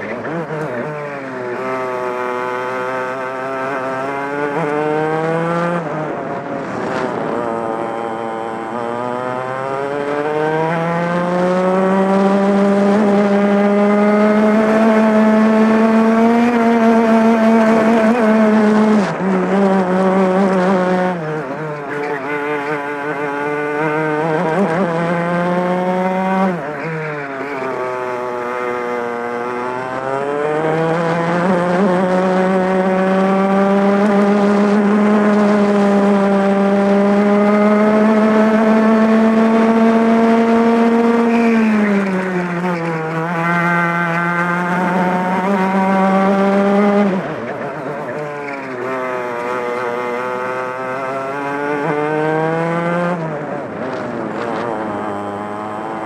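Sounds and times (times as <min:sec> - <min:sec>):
two-stroke kart engine racing: 0:00.0 - 0:56.0.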